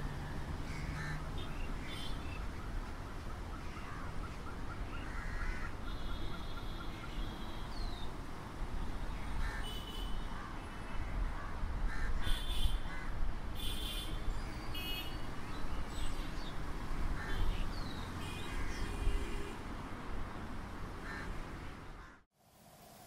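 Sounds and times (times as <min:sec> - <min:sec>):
traffic and people rumble: 0:00.0 - 0:22.3.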